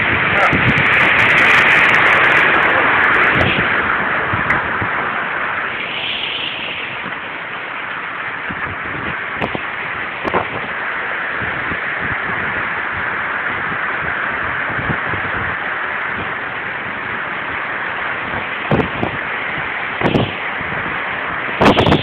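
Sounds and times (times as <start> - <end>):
rushing wind: 0.0 - 22.0.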